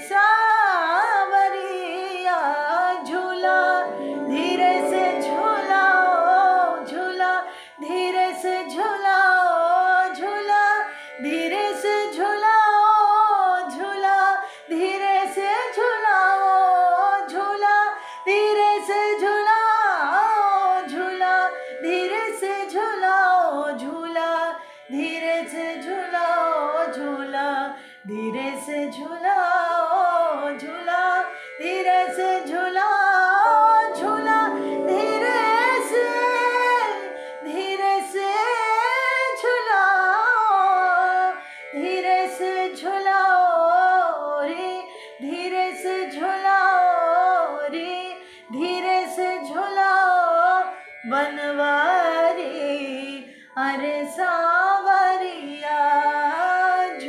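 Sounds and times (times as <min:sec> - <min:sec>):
woman singing: 0:00.0 - 0:57.0.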